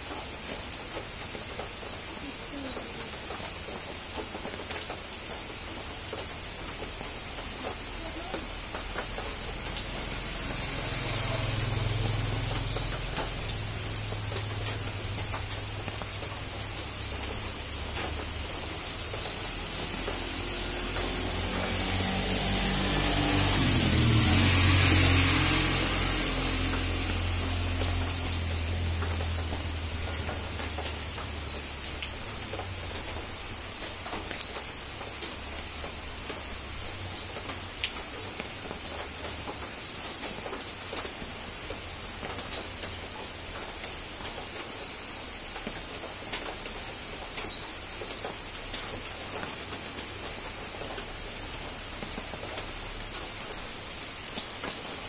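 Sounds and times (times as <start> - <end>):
steady rain falling: 0.0 - 55.0
water drips and taps: 0.2 - 23.2, 23.8 - 50.1.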